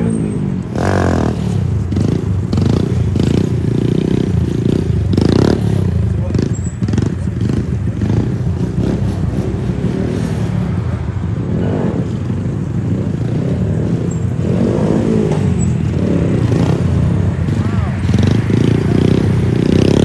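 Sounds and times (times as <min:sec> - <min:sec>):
mini bike engines revving: 0:00.0 - 0:20.0.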